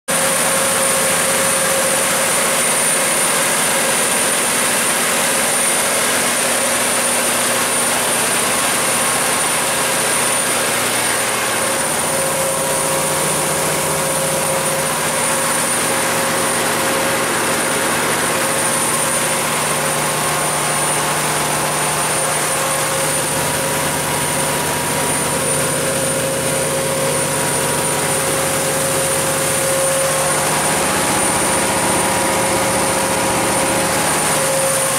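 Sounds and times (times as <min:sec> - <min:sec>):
generator engine humming: 0:00.1 - 0:34.9.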